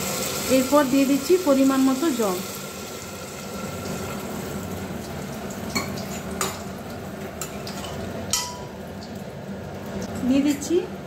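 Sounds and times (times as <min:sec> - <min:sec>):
potatoes sizzling in oil: 0:00.0 - 0:10.9.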